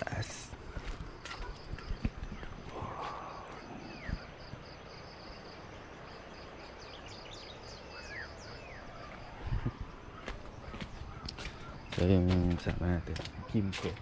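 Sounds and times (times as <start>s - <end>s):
insects calling in pulses: 0.0s - 12.0s.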